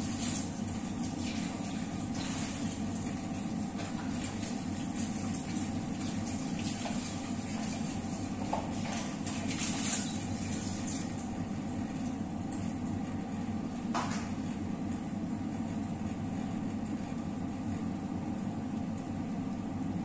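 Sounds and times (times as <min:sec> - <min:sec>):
fan humming: 0:00.0 - 0:20.0.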